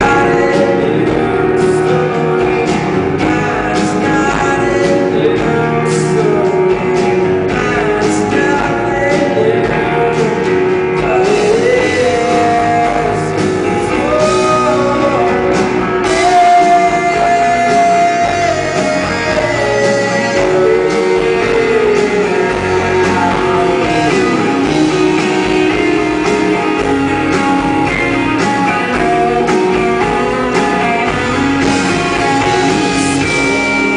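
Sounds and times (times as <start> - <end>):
man singing: 0.0 - 33.9
rock band playing live: 0.0 - 33.9.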